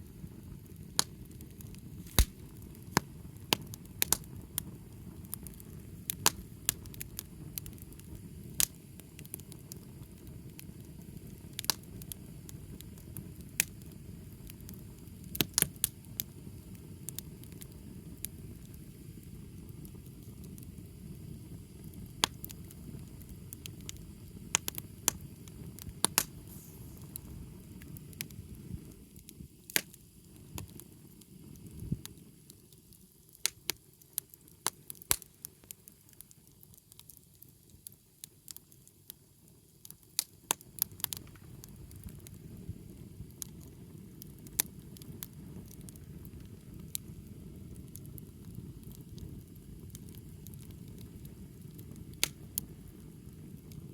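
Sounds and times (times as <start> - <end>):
fire crackling and popping: 0.0 - 53.9
low noise of flames: 0.0 - 53.9.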